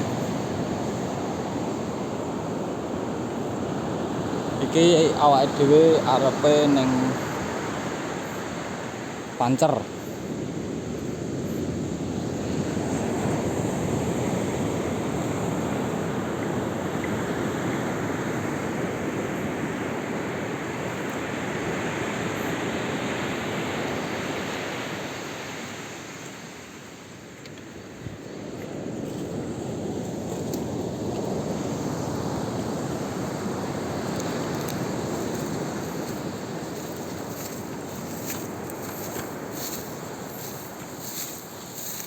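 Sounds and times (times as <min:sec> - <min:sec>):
ocean surf washing in: 0:00.0 - 0:42.0.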